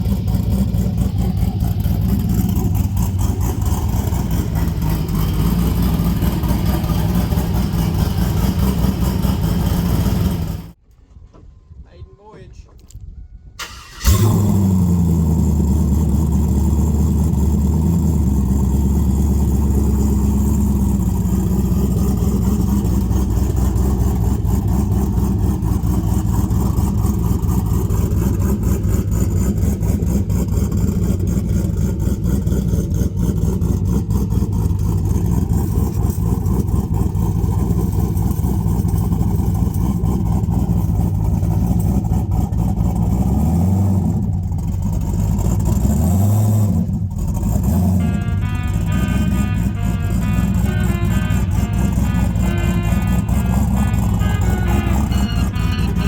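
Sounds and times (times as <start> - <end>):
car engine idling: 0.0 - 10.8, 13.6 - 56.0.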